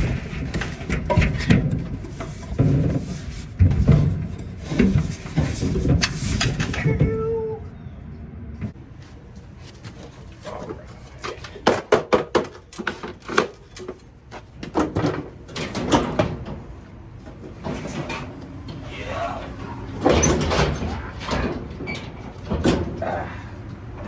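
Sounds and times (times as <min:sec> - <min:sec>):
dryer parts knocking and rattling: 0:00.0 - 0:07.2, 0:08.6 - 0:24.0.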